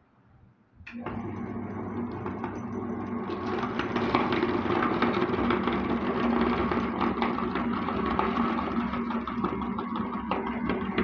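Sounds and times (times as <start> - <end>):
meat grinder motor running: 1.0 - 11.0
soap crunching in grinder: 1.8 - 11.0.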